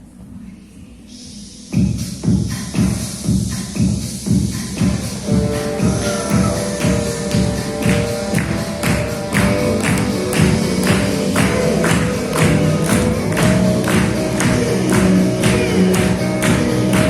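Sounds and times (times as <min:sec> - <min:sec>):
background music with steady beat: 0:00.0 - 0:17.0.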